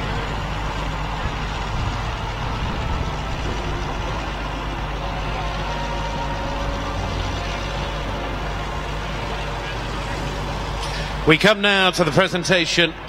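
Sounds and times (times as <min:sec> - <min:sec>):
low mechanical hum: 0:00.0 - 0:13.0
open-air background noise: 0:00.0 - 0:13.0.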